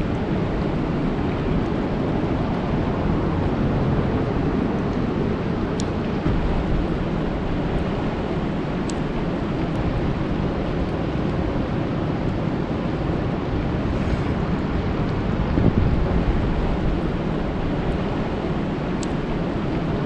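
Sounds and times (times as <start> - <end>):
rain falling on a lake: 0.0 - 13.8, 14.6 - 20.0.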